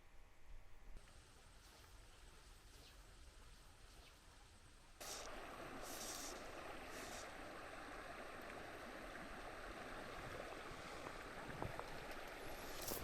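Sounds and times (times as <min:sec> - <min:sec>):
creek water flowing: 0:01.0 - 0:13.0.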